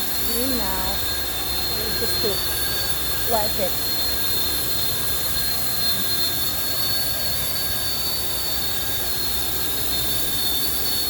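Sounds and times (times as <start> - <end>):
electric motors whining: 0.0 - 11.0.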